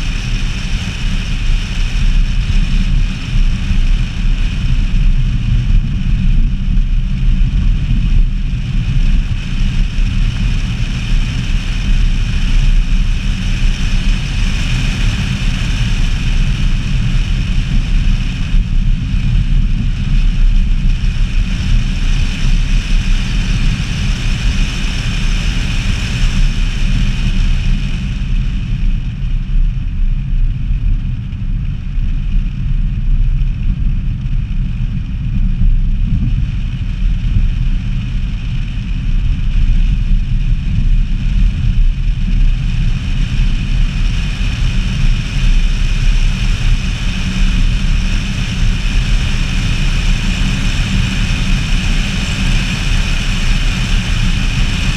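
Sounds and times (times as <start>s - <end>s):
car engine and tyre noise: 0.0s - 54.9s
wind buffeting camera: 0.0s - 54.9s.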